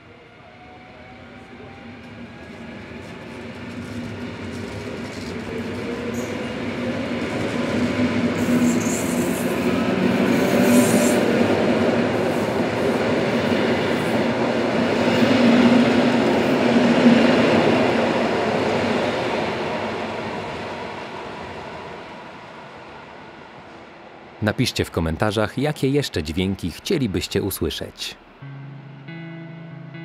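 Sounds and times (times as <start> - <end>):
rail and wheel noise: 0.0 - 29.0
electric train passing: 0.0 - 30.0.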